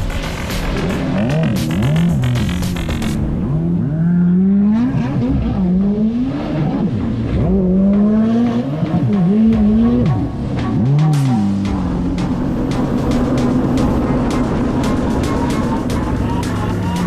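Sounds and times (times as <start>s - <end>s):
jet ski engine revving: 0.4s - 17.0s.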